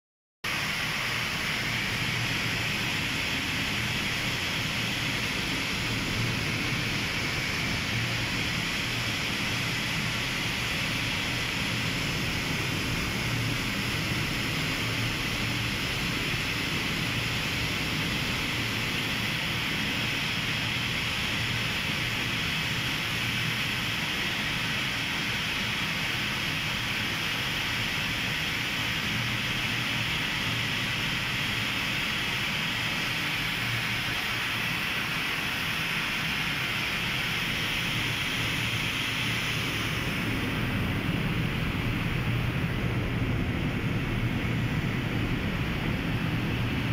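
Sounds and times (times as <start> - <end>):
industrial rushing hiss: 0.5 - 46.9.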